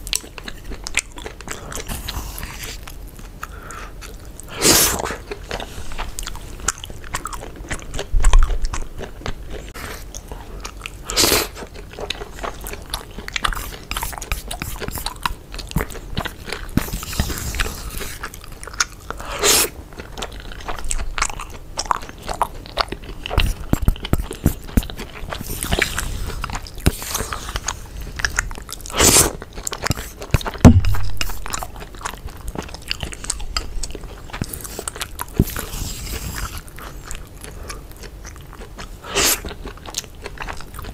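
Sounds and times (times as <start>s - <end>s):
chewing and mouth sounds: 0.0s - 40.9s.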